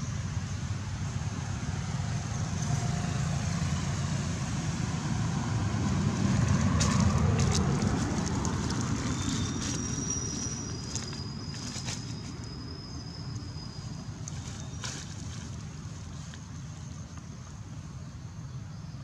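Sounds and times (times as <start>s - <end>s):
low rumble with hiss: 0.0s - 19.0s.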